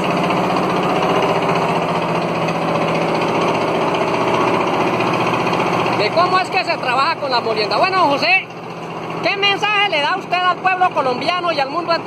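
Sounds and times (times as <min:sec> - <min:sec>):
stationary engine running under load: 0:00.0 - 0:12.0.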